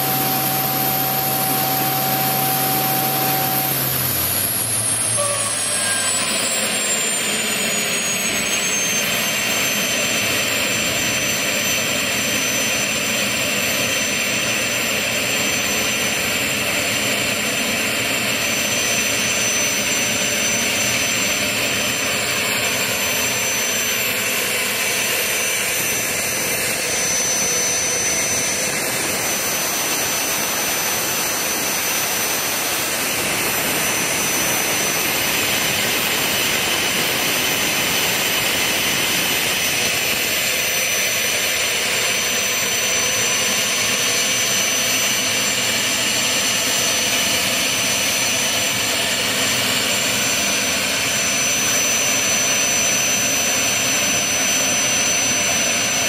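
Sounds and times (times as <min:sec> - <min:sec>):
gas turbine engine whistling: 0:00.0 - 0:56.0.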